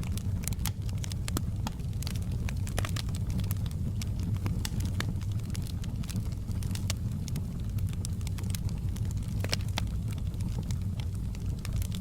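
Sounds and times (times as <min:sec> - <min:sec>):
low rumble of flames: 0:00.0 - 0:12.0
wood fire crackling: 0:00.0 - 0:12.0.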